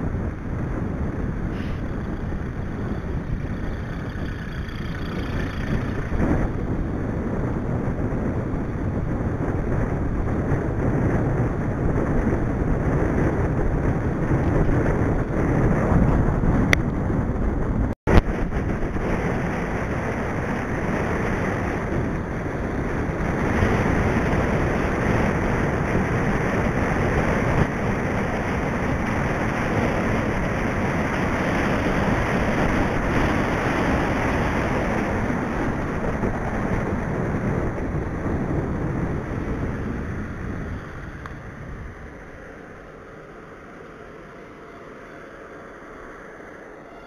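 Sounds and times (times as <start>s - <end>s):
road noise: 0.0s - 47.0s
wind rushing over microphone: 0.0s - 47.0s.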